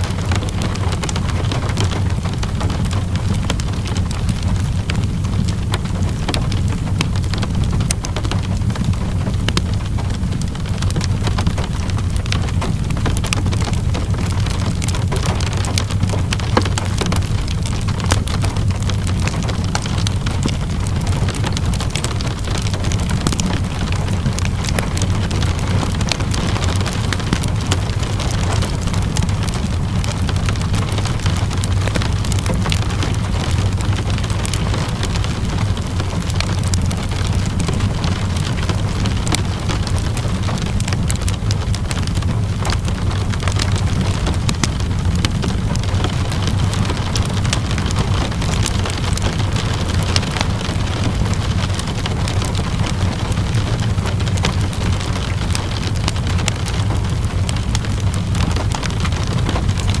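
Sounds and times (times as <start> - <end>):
constant low rumble: 0.0 - 60.0
fireplace crackles and pops: 0.0 - 60.0
rain hissing and pattering: 0.0 - 60.0.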